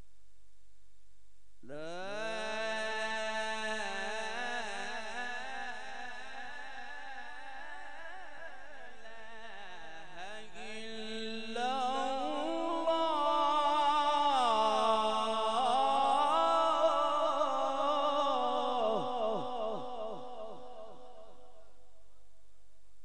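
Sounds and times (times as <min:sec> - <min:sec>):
man reciting melodically into microphone: 0:01.6 - 0:21.8.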